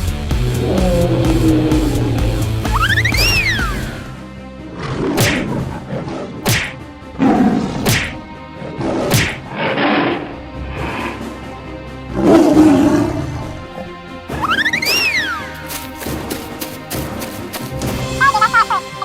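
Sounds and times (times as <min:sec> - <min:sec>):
cartoon action music: 0:00.0 - 0:13.5, 0:14.3 - 0:19.0.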